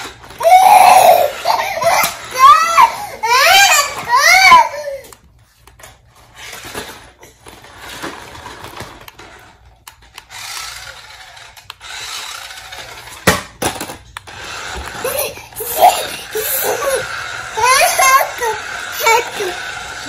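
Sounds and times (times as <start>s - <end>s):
plastic toys scraping on floor: 0.0s - 20.0s.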